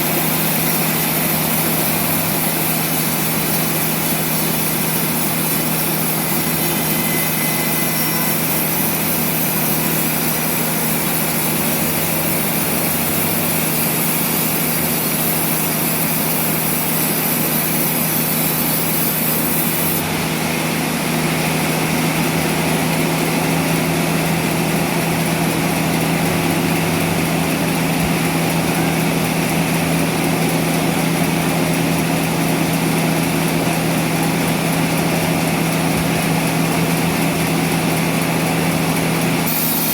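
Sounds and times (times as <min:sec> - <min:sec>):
saw cutting: 0:00.0 - 0:39.9
sawmill machine hum: 0:00.0 - 0:39.9.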